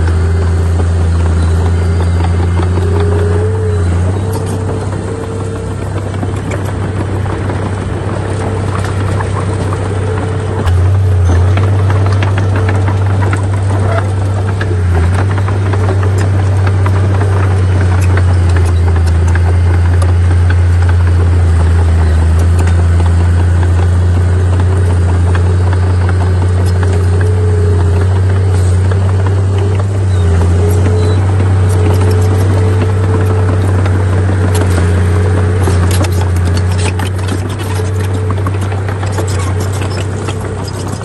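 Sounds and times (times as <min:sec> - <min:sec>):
heavy machinery diesel engine running: 0:00.0 - 0:41.0.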